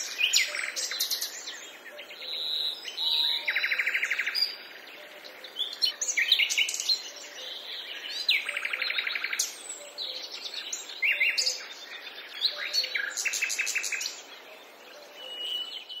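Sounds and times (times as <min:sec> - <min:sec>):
forest birds singing and calling: 0:00.0 - 0:16.0.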